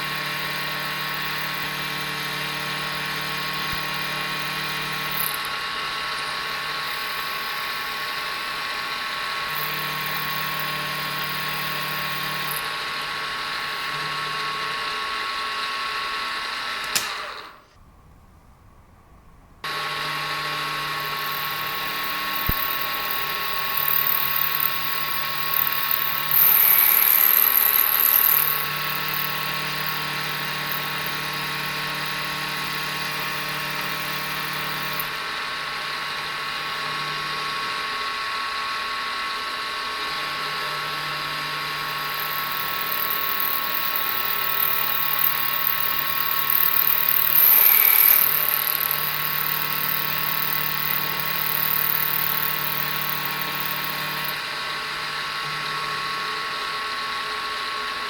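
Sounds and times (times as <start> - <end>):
milling machine running: 0.0 - 17.5, 19.7 - 58.0.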